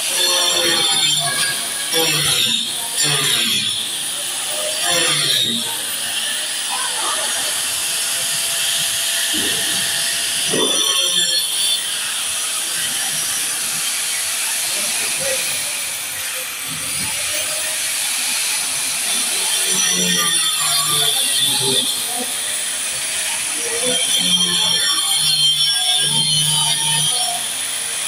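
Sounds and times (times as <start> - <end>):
angle grinder grinding concrete: 0.0 - 28.0.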